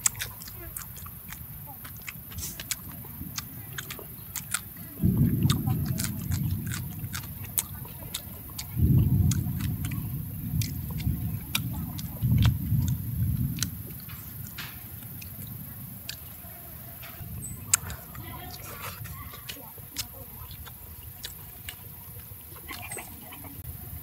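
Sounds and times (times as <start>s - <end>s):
loud low rumbling: 0.0s - 22.4s
person chewing crispy fish: 0.0s - 23.4s.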